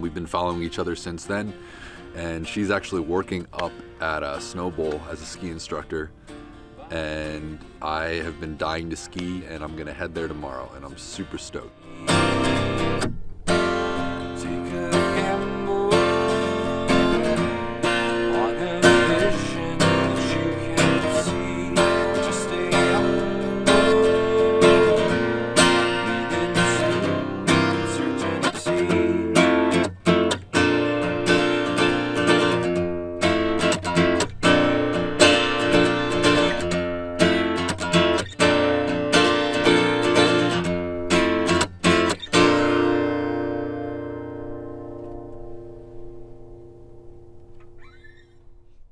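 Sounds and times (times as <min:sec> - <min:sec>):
acoustic guitar strumming: 0:00.0 - 0:48.8.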